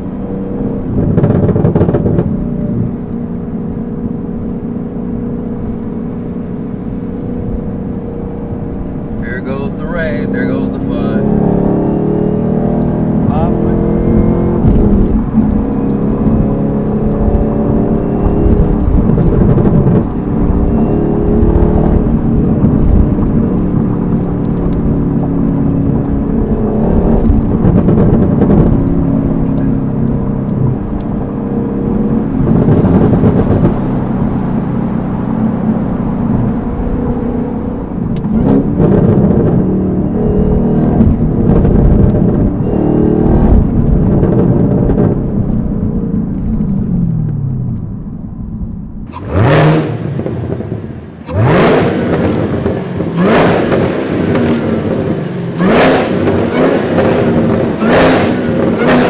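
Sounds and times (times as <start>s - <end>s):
loud car engine accelerating: 0.0s - 59.0s.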